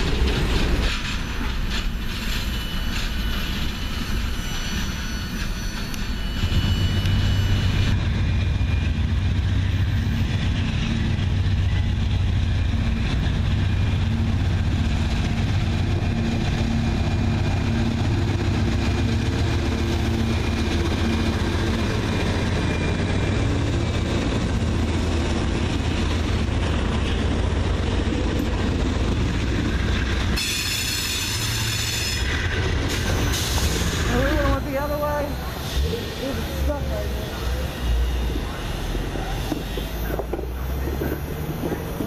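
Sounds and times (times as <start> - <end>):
diesel locomotive engine drone: 0.0 - 42.0
wheels rumbling on rails: 0.0 - 42.0
high ringing wheel whine: 0.5 - 32.6, 33.3 - 42.0.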